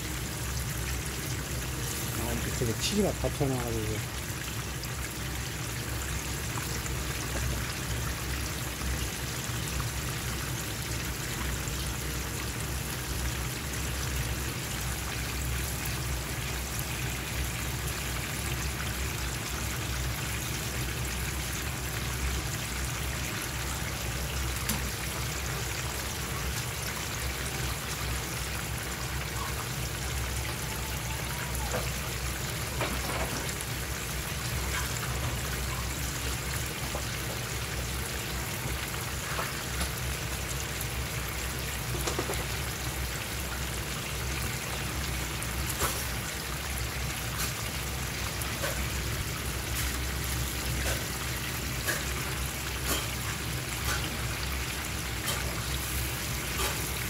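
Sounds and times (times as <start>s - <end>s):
sauce bubbling and sizzling: 0.0s - 57.0s.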